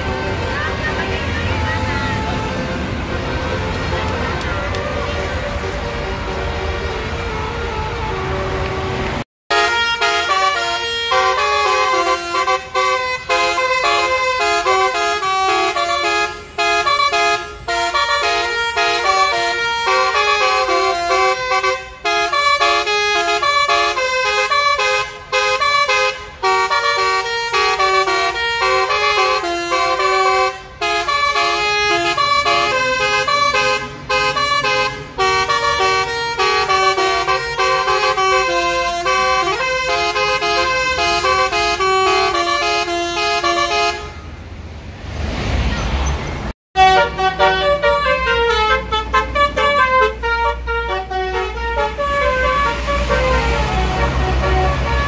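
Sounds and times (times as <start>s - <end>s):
musical bus horn playing a tune: 0.0s - 44.4s, 46.8s - 55.0s.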